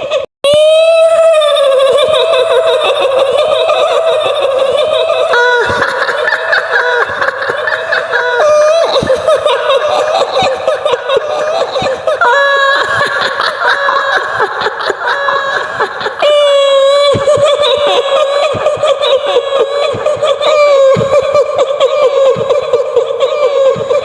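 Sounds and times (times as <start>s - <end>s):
woman's shrill laugh: 1.0s - 24.0s.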